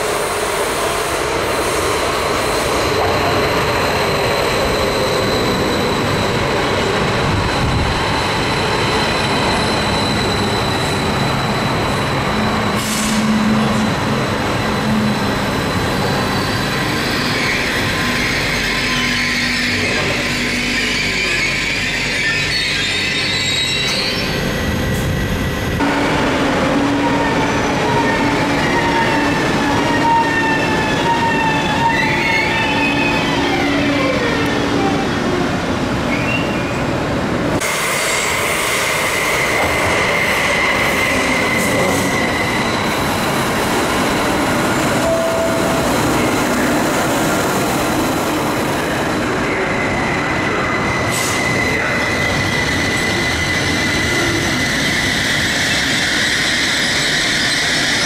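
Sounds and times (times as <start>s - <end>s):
train wheel squeal: 0.0s - 25.3s, 26.8s - 35.1s, 36.1s - 36.9s, 37.6s - 58.0s.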